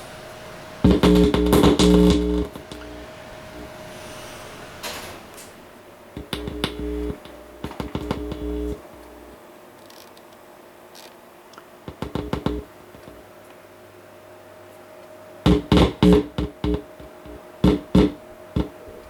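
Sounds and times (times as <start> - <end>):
faint amplifier hum: 0.0 - 3.9, 5.5 - 19.0.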